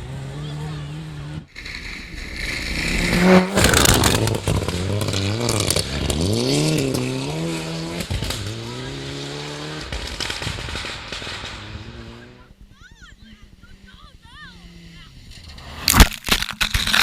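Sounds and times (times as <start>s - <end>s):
rally car engine passing at speed: 0.0s - 12.7s, 14.5s - 15.9s.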